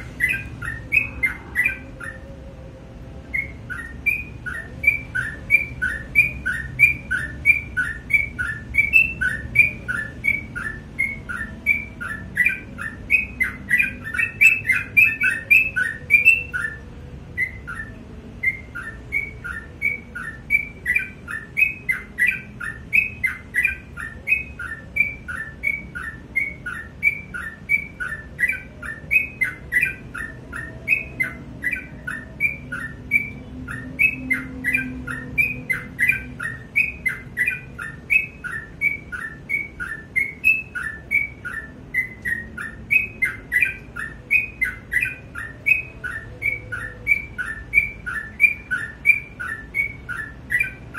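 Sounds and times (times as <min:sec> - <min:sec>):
bulbul singing bright notes: 0:00.0 - 0:50.9.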